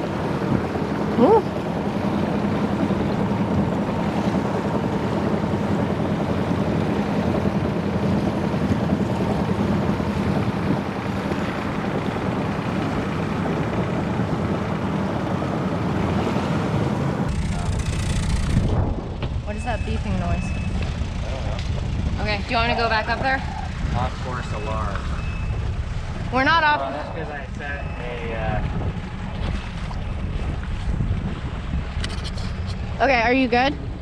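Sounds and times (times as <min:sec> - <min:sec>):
boat engine drone: 0:00.0 - 0:34.0
water rushing along hull: 0:00.0 - 0:34.0
wind buffeting microphone: 0:00.0 - 0:34.0.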